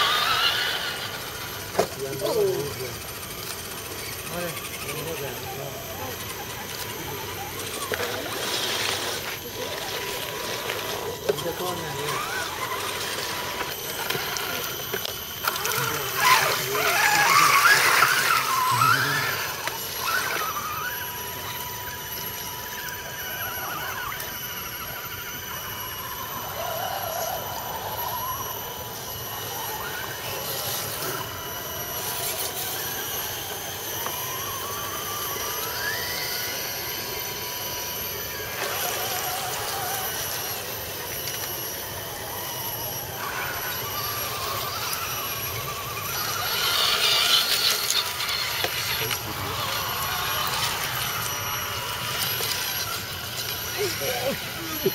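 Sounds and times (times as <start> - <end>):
electric motors whining: 0.0 - 54.9.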